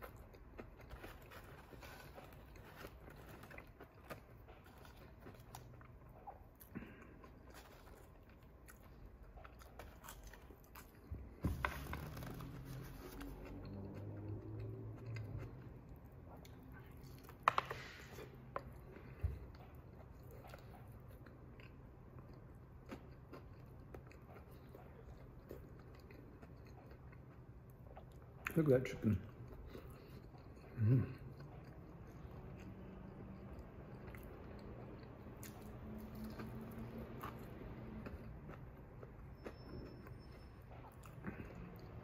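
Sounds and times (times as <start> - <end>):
crunches of chewing: 0.0 - 11.4, 12.0 - 42.0
chewing with moist mouth sounds: 0.0 - 42.0.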